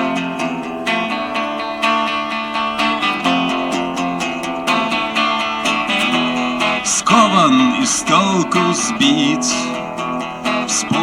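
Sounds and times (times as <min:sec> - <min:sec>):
acoustic guitar strumming: 0:00.0 - 0:11.0
person singing: 0:00.0 - 0:11.0.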